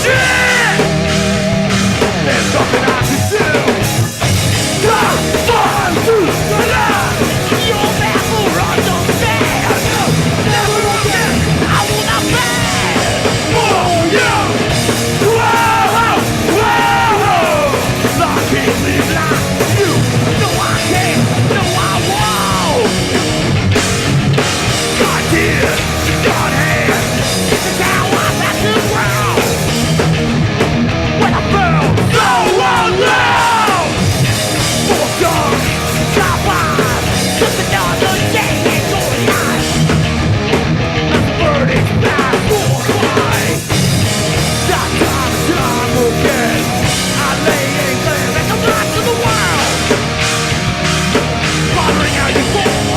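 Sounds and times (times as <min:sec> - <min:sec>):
shouted vocals: 0:00.0 - 0:23.4, 0:24.8 - 0:29.7, 0:31.2 - 0:39.9, 0:41.2 - 0:52.9
punk band playing live: 0:00.0 - 0:52.9.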